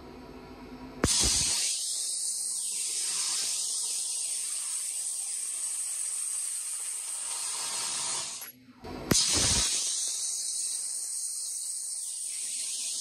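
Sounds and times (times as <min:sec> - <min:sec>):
blasting gun hissing compressed air: 0:01.0 - 0:08.4, 0:09.1 - 0:13.0.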